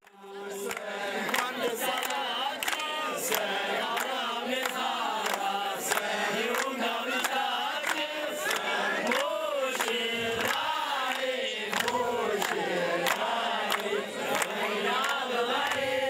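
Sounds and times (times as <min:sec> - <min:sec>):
crowd singing: 0:00.0 - 0:16.0
people clapping in time: 0:00.0 - 0:16.0.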